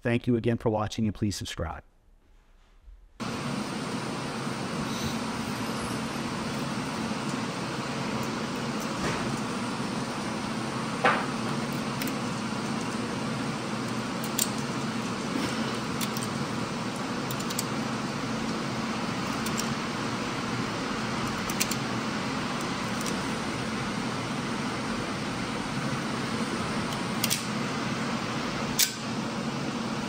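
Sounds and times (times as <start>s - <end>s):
ventilation hum: 0.0s - 30.0s.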